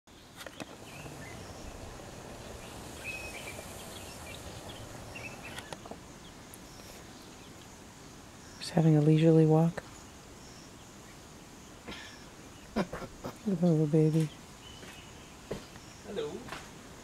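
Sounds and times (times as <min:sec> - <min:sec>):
steady background hiss: 0:00.1 - 0:17.0.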